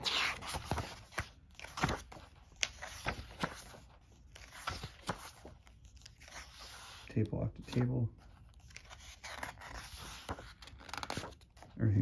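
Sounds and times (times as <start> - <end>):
pages flipped by hand: 0.0 - 11.8.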